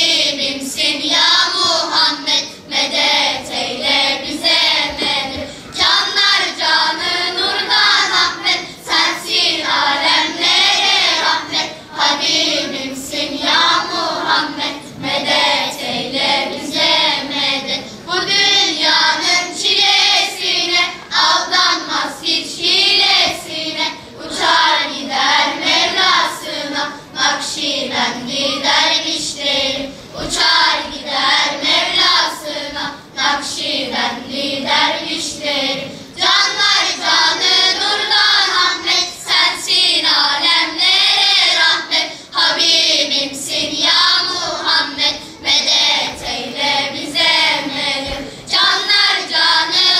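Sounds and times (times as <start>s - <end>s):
children's choir singing: 0.0s - 49.9s.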